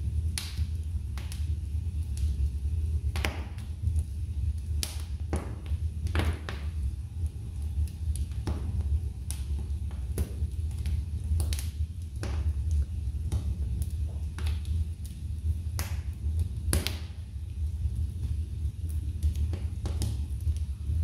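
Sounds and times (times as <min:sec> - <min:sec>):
steady low rumble: 0:00.0 - 0:21.0
wood fire crackling: 0:00.0 - 0:21.0
sharp pops of burning logs: 0:00.2 - 0:21.0.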